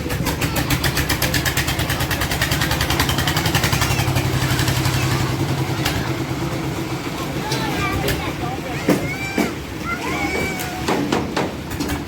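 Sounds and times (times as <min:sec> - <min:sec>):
concrete mixer engine chugging: 0:00.0 - 0:12.0.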